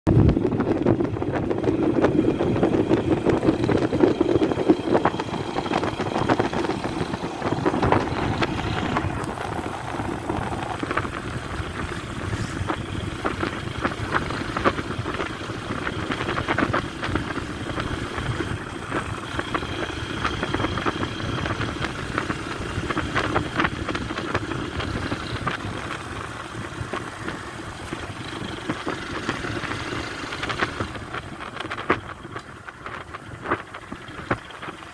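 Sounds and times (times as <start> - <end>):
motor vehicle running: 0.1 - 34.9
wind on microphone: 0.1 - 34.9.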